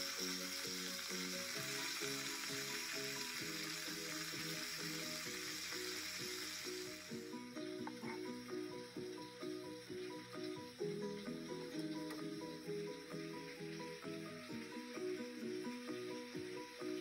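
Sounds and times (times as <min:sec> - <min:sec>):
background music with short notes: 0:00.0 - 0:17.0
chicken sizzling in oil: 0:00.0 - 0:17.0.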